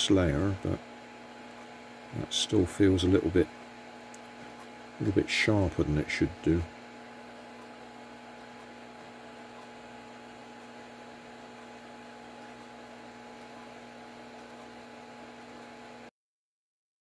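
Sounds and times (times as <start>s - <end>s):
electrical hum: 0.0s - 16.1s.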